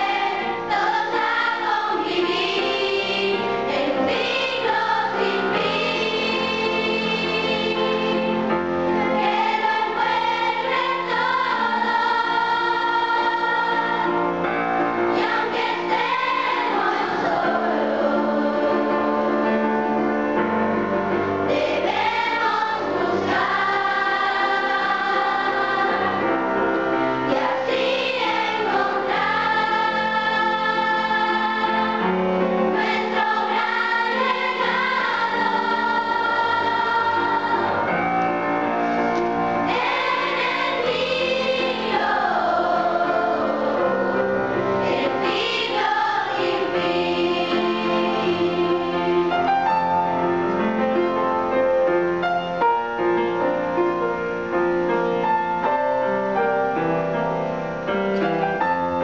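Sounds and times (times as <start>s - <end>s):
choir singing: 0.0s - 50.8s
piano accompaniment: 0.0s - 59.0s.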